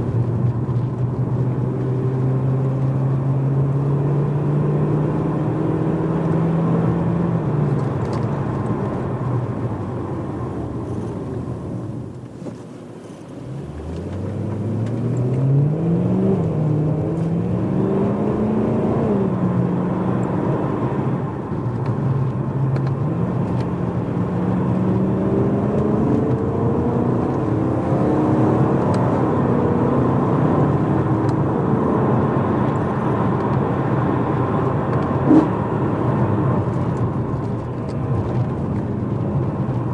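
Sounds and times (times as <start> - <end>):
car engine while driving: 0.0 - 39.9.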